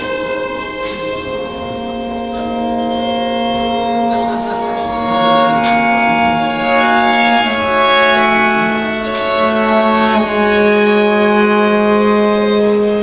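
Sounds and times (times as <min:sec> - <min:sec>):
string quartet sustained chords: 0:00.0 - 0:13.0.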